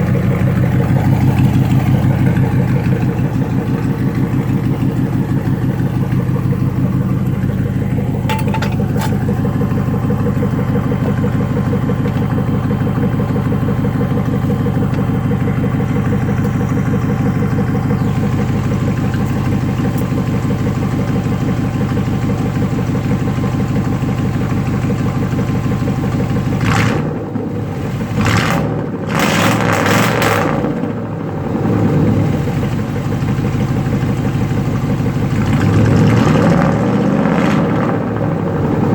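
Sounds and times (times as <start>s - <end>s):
loud lumpy exhaust idling: 0.0s - 38.9s.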